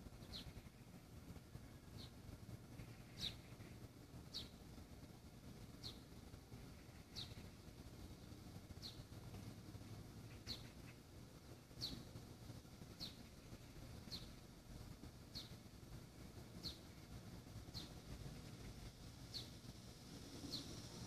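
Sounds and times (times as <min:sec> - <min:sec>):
bird chirping: 0:00.0 - 0:00.9, 0:01.5 - 0:04.8, 0:05.6 - 0:12.2, 0:12.8 - 0:21.0
low outdoor background hum: 0:00.0 - 0:21.0.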